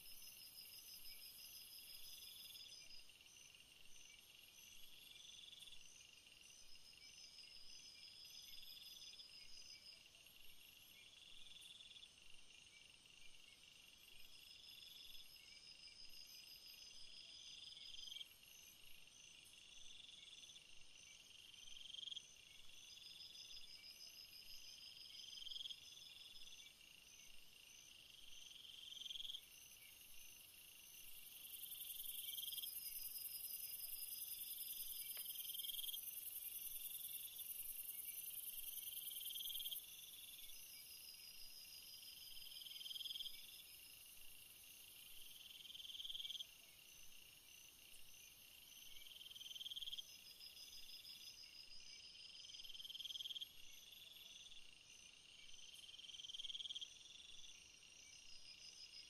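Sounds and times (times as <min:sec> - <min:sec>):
crickets and insects chirping: 0:00.0 - 0:59.0.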